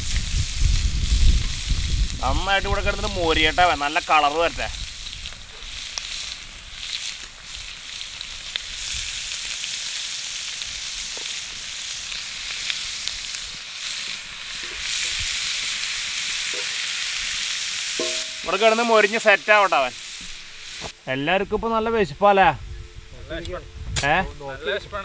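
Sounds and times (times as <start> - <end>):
meat sizzling in hot oil: 0.0 - 21.1.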